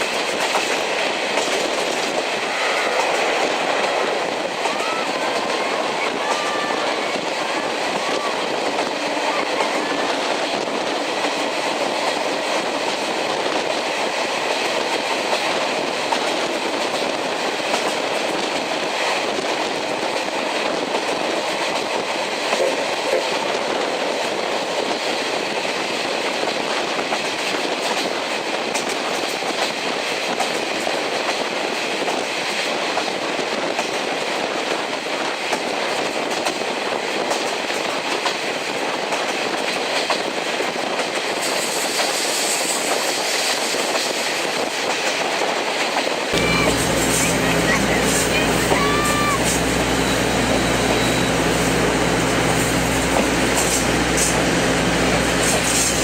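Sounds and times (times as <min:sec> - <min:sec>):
train wheels clickety-clack: 0:00.0 - 0:56.0.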